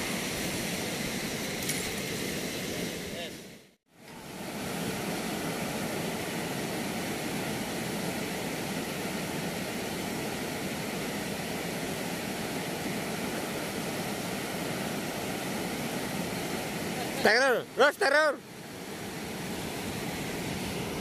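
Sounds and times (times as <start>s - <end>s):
river water rushing: 4.1s - 21.0s.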